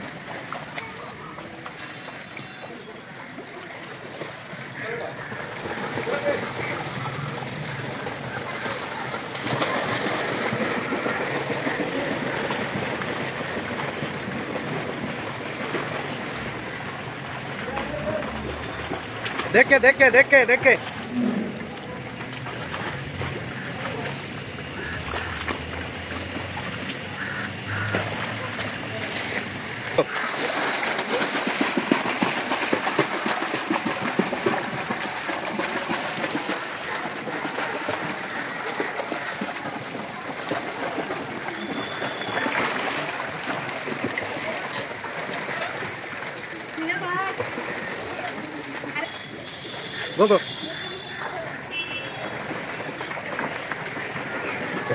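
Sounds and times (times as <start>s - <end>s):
swimmer splashing pool water: 0.0s - 54.9s.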